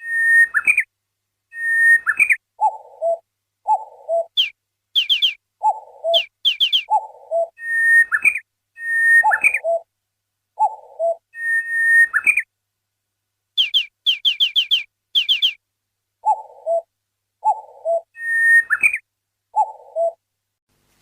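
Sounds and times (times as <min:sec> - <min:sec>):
bird-like whistles and chirps: 0:00.0 - 0:00.9, 0:01.5 - 0:09.9, 0:10.6 - 0:12.5, 0:13.6 - 0:15.6, 0:16.2 - 0:20.2.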